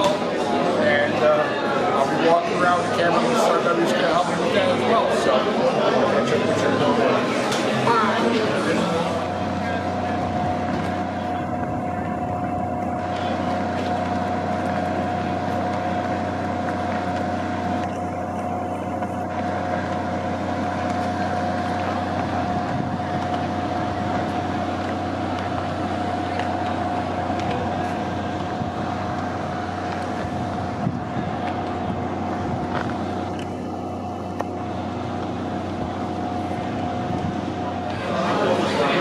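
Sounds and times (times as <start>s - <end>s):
steady mechanical drone with whine: 0.0s - 39.0s.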